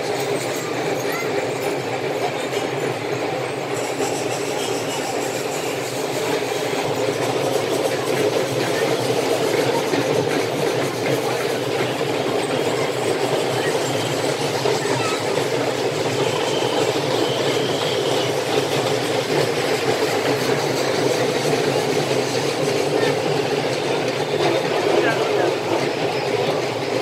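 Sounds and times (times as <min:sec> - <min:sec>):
crowd murmur: 0:00.0 - 0:27.0.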